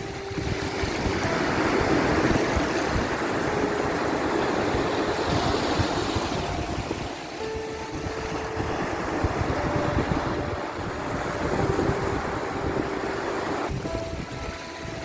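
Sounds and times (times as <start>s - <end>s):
sea waves washing: 0.0s - 15.0s
soft background music: 0.0s - 15.0s.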